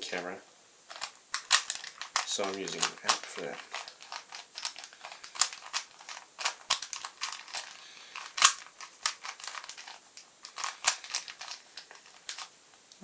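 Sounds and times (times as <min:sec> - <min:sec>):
puzzle cube plastic layers clicking: 0:00.9 - 0:12.5.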